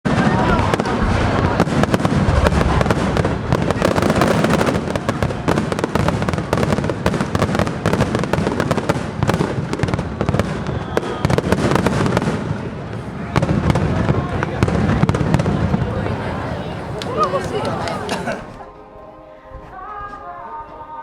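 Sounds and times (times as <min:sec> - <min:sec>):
fireworks crackling and banging: 0:00.1 - 0:18.6.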